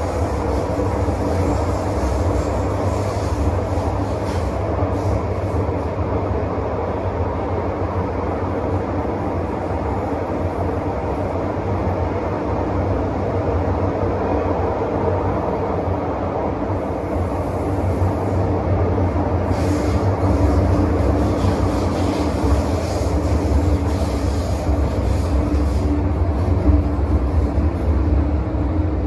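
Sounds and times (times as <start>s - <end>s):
train running rumble: 0.0s - 29.0s.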